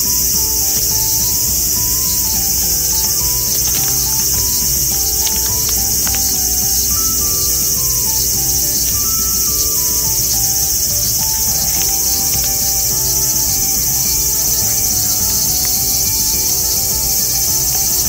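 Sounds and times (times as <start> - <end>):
insects chirring: 0.0 - 18.0
soft melody of held notes: 0.0 - 18.0.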